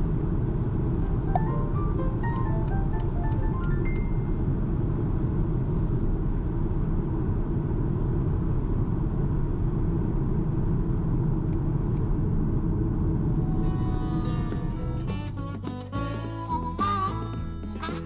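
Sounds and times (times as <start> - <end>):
road and wind rumble in car: 0.0 - 15.6.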